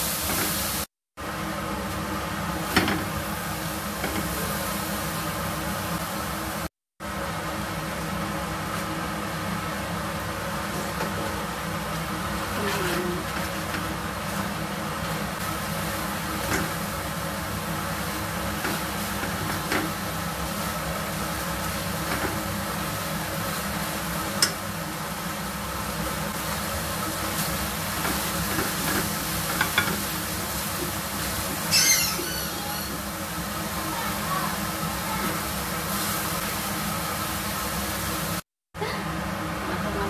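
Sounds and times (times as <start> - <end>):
sauce sizzling in frying pan: 0.0 - 38.4.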